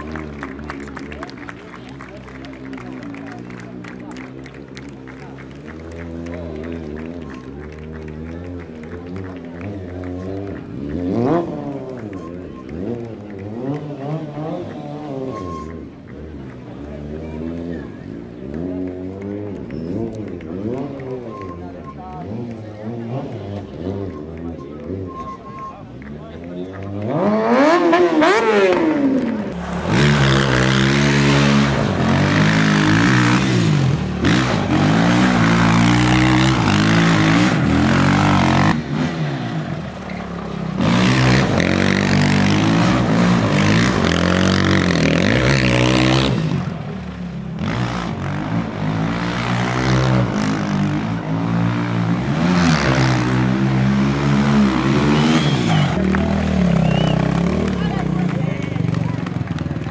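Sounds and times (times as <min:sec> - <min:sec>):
motorcycle engine revving: 0:02.0 - 0:59.9
quad bike engine revving: 0:02.0 - 0:59.9.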